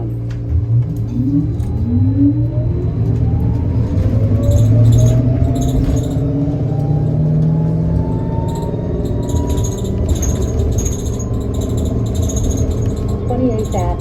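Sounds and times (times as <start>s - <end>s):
electric bus motor whine: 0.0s - 14.0s
low hum: 0.0s - 14.0s.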